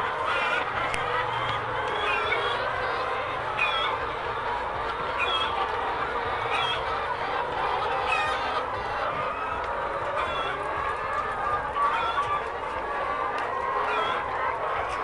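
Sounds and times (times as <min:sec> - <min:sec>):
hens clucking and calling: 0:00.0 - 0:15.0.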